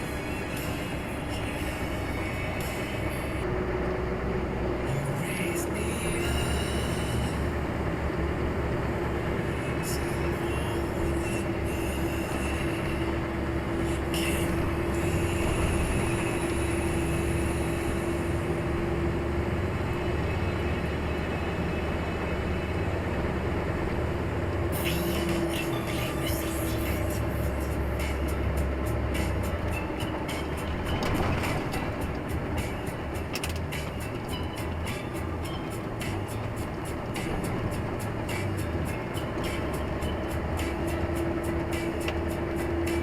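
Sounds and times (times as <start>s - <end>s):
heavy vehicle engine drone: 0.0s - 43.0s.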